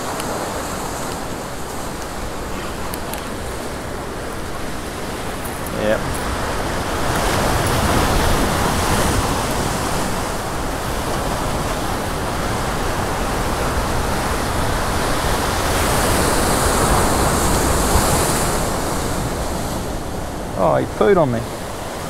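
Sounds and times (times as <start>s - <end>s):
ocean surf breaking on rocks: 0.0s - 22.0s.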